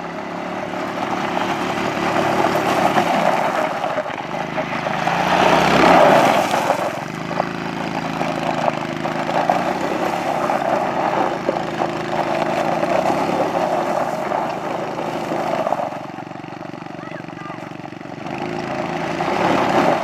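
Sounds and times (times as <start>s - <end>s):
small atv engine at high revs: 0.0s - 20.0s.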